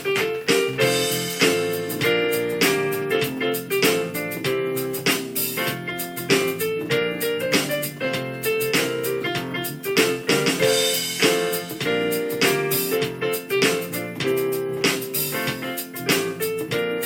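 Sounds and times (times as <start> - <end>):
instrumental piano music: 0.0 - 17.0.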